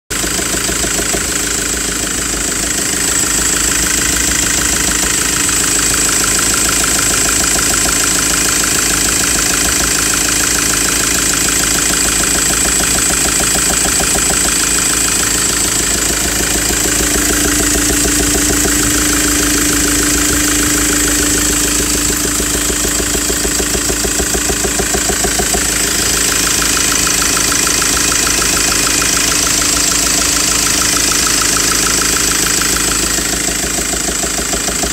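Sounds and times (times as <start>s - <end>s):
engine idling with rapid knock: 0.1s - 34.9s.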